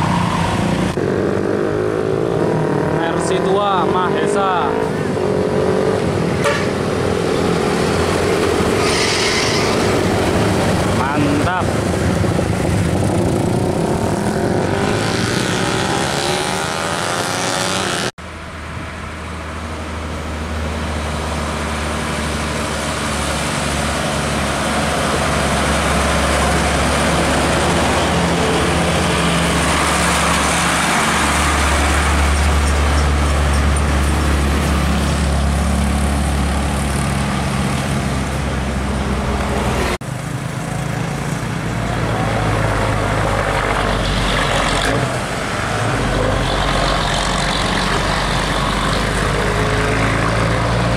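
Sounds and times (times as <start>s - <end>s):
diesel trucks driving past: 0.0s - 50.9s
tyre and traffic noise: 0.0s - 50.9s.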